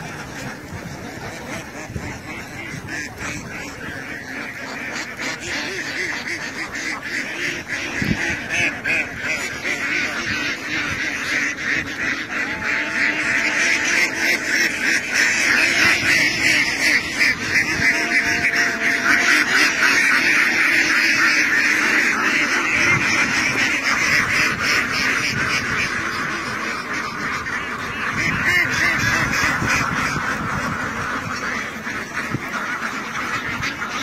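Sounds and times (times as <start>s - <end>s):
ducks quacking: 0.0s - 34.0s.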